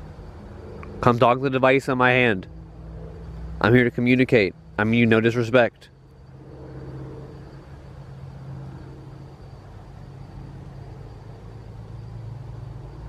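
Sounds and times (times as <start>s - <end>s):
faint outdoor background noise: 0.0s - 13.0s
vehicle engine humming: 0.0s - 13.0s.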